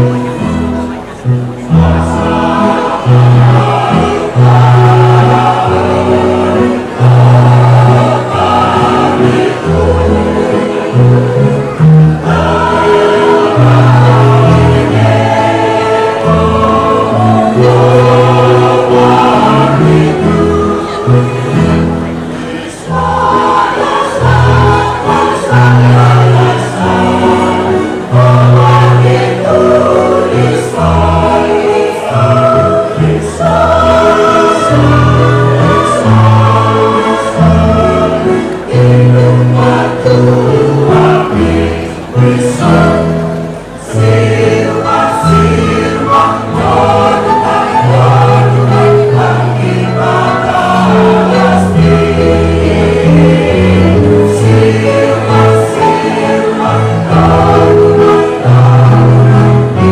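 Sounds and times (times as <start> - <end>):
choir singing in harmony: 0.0 - 59.9
electric keyboard: 0.0 - 59.9.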